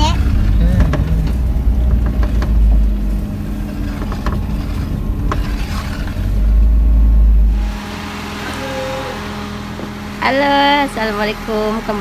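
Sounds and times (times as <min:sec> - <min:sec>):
engine hum: 0:00.0 - 0:12.0
slow vehicle rumble: 0:00.0 - 0:12.0.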